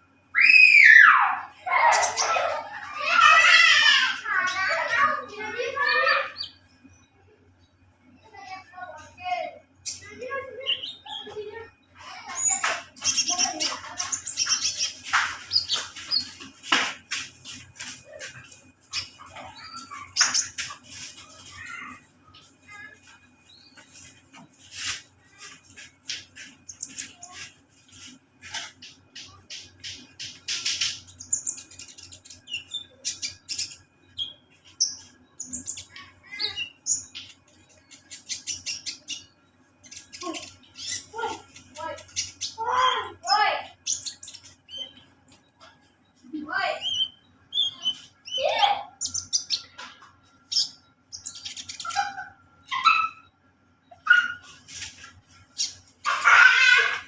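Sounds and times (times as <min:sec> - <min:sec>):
sunbird chirping and twittering: 0:00.4 - 0:57.0.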